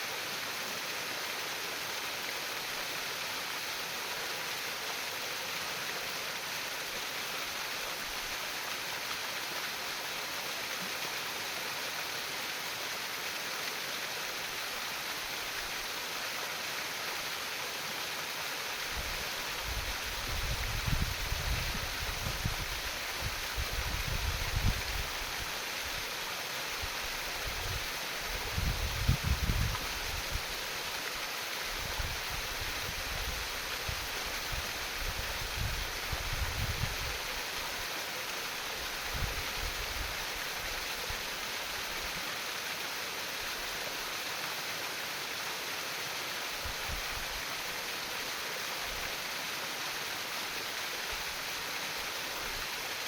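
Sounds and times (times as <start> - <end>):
stream water flowing: 0.0 - 53.0.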